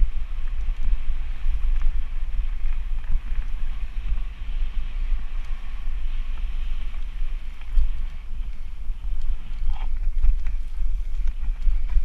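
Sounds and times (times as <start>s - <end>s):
bike tyres rattling on dirt trail: 0.0s - 12.0s
wind buffeting microphone: 0.0s - 12.0s.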